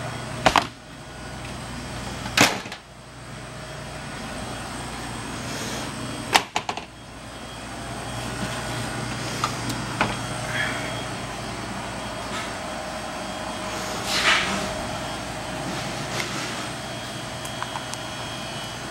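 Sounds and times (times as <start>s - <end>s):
refrigeration unit humming: 0.0s - 18.9s.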